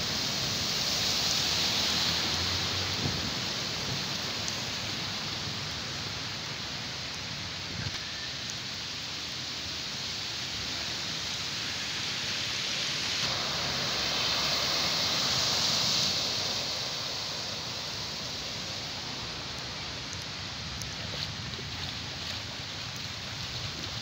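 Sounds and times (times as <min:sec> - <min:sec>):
heavy rain hiss: 0:00.0 - 0:24.0
truck tyres spraying water: 0:00.0 - 0:24.0.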